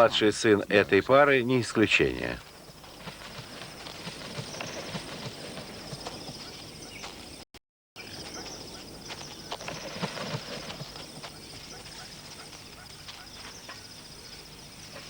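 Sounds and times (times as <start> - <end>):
birds pecking on dry ground: 2.0 - 7.4, 8.0 - 15.0.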